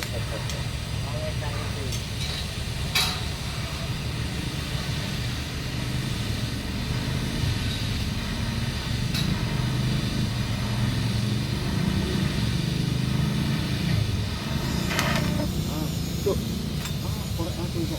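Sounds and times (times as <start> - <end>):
engine running with low hum: 0.0 - 17.9.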